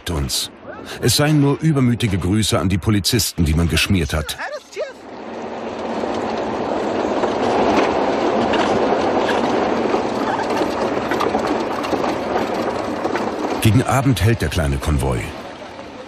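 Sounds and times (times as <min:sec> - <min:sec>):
vehicle rumbling over rough ground: 0:00.0 - 0:16.0.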